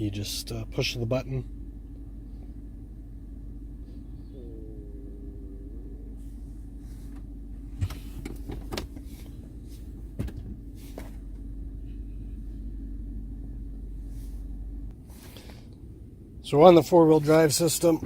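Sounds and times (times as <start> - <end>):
engine idling low hum: 0.0 - 18.0.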